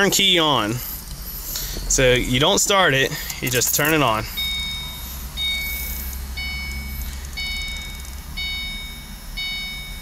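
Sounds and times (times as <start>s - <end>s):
car dashboard warning chime: 0.0s - 0.7s, 2.2s - 10.0s.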